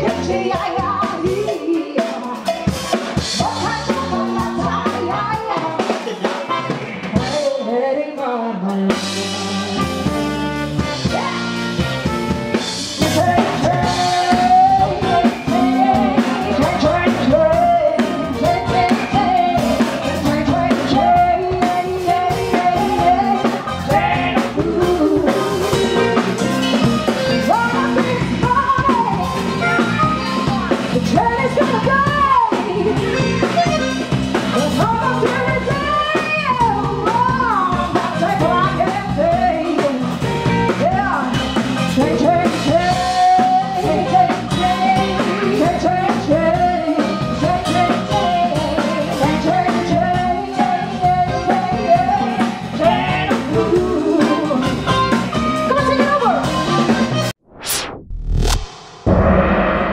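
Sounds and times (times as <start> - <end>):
person singing: 0.0 - 10.0, 13.0 - 40.2, 42.0 - 54.9
live band playing: 0.0 - 57.4.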